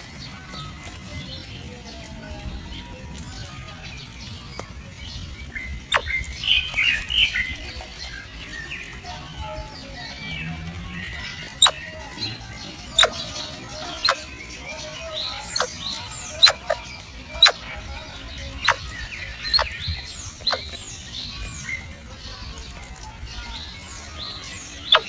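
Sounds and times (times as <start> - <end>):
other birds chirping faintly: 0.0 - 25.0.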